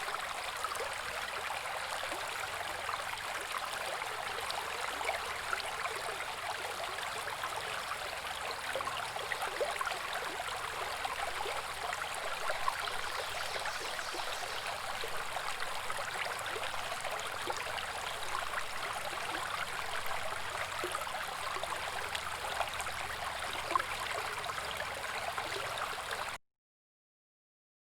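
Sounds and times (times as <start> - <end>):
brook babbling over rocks: 0.0 - 26.4.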